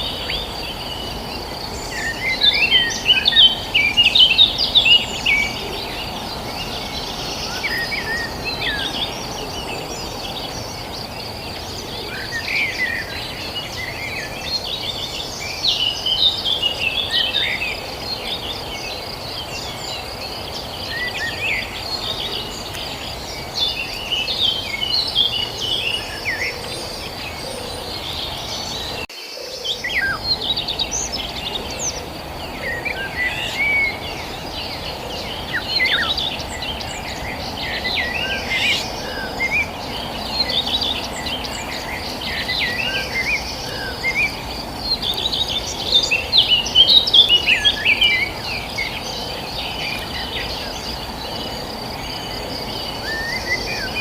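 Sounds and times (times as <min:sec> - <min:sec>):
birds chirping: 0:00.0 - 0:54.0
insect trill: 0:00.0 - 0:54.0.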